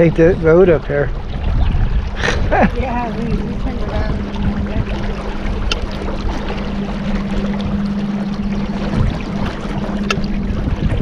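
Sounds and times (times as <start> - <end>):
small boat motor humming: 0.0 - 11.0
water wash: 0.0 - 11.0
wind noise: 0.0 - 11.0.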